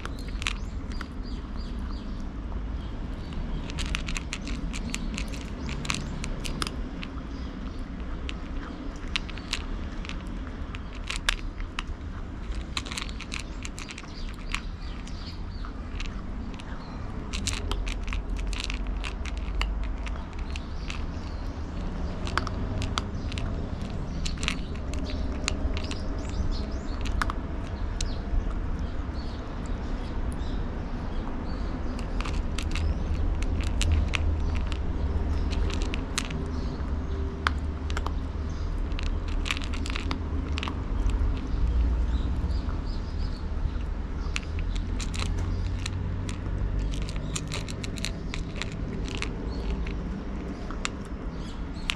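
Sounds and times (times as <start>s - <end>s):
cat chewing and crunching food: 0.0s - 51.9s
steady low rumble: 0.0s - 51.9s.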